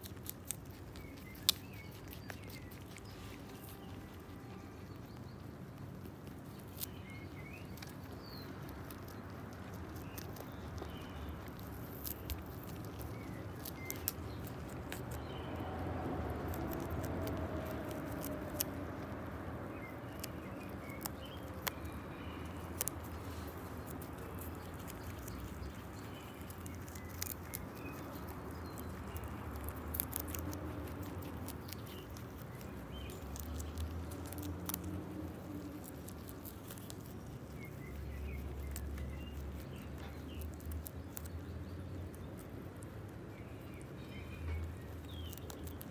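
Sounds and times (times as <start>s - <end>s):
rabbits chewing crunchily: 0.0s - 45.9s.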